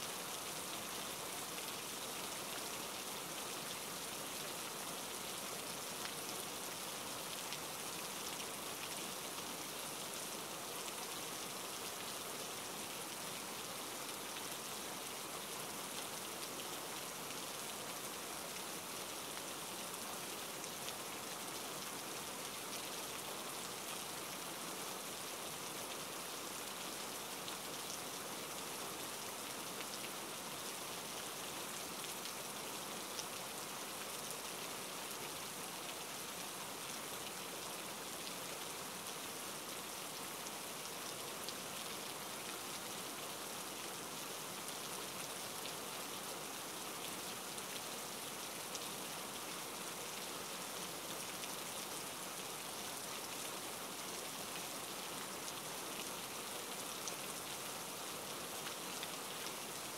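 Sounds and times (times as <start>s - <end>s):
steady hiss with fine crackles: 0.0s - 59.9s.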